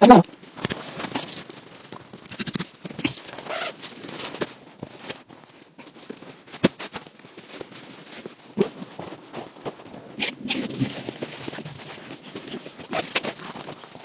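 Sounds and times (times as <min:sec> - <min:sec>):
rustling: 0:00.3 - 0:14.0.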